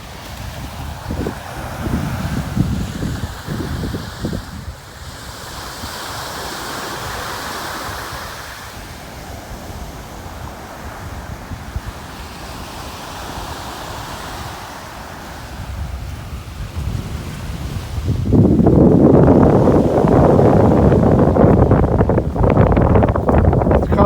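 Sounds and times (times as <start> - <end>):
ocean waves breaking: 0.0 - 24.0
wind rumbling on microphone: 0.0 - 24.0.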